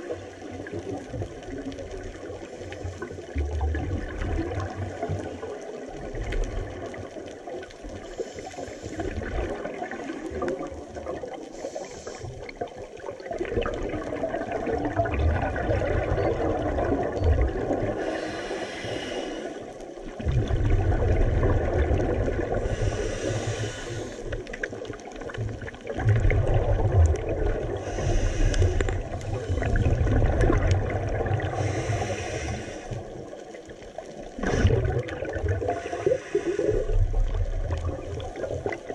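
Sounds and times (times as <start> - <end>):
exhaled bubbles rushing: 0.0 - 8.2, 8.9 - 11.6, 12.2 - 18.2, 20.0 - 38.9
underwater bubbles gurgling: 0.0 - 38.9.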